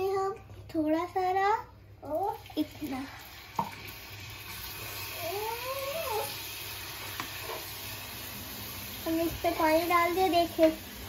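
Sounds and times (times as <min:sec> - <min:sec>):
water sizzling in frying pan: 0:02.0 - 0:11.0.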